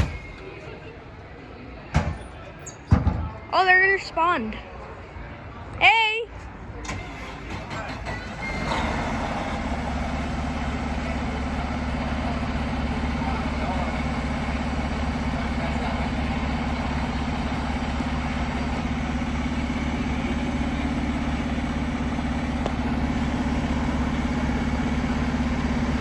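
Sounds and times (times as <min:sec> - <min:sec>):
diesel engine idling: 0:00.0 - 0:02.6, 0:06.4 - 0:26.0.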